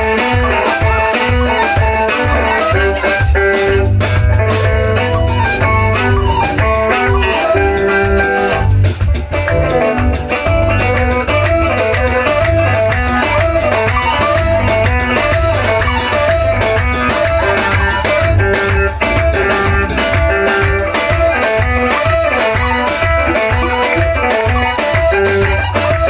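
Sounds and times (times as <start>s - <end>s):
repeating melodic riff: 0.0s - 24.5s
drum kit and bass groove: 0.0s - 26.0s.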